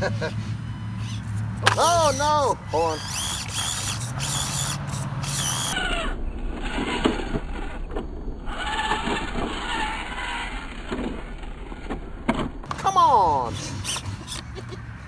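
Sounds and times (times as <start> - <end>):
rc car motor running: 1.0 - 12.2, 13.1 - 14.6.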